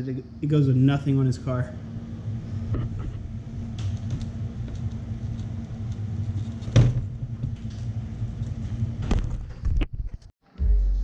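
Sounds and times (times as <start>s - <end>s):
low mechanical hum: 0.0s - 10.2s.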